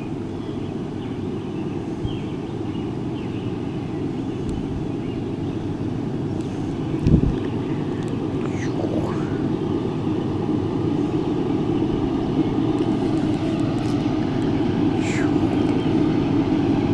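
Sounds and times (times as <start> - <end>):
diesel locomotive rumble: 0.0 - 16.9.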